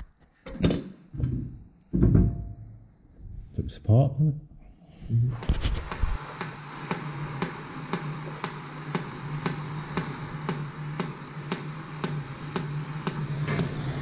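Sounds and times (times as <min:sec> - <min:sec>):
steady low hum: 0:02.2 - 0:14.0.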